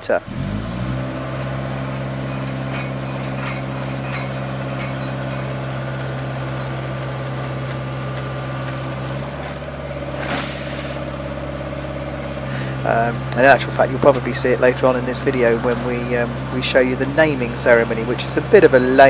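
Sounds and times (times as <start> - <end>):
boat hoist engine running: 0.0 - 19.0.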